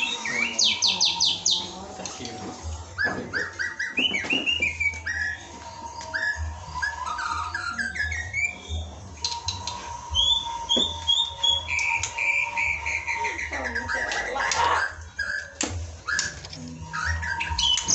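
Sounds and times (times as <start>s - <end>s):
songbird singing: 0.0s - 17.9s.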